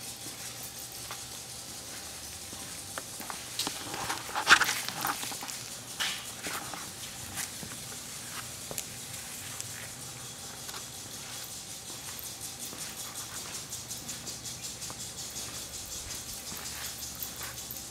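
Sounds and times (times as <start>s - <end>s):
dog claws clicking on tile floor: 0.0s - 17.9s.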